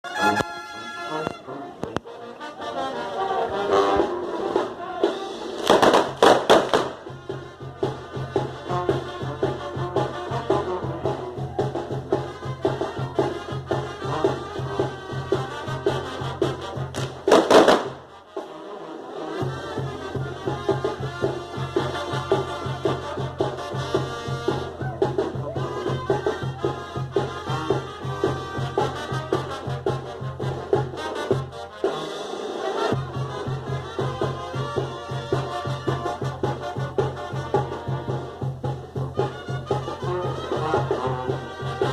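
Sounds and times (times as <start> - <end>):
brass band playing latin dance tune: 0.0 - 41.9.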